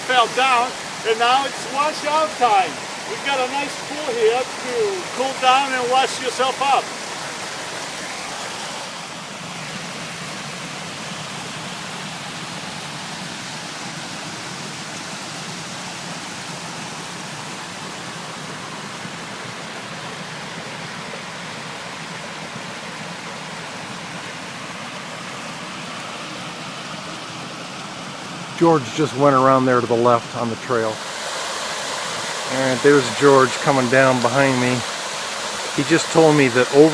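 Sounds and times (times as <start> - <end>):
stream water rushing: 0.0 - 36.9.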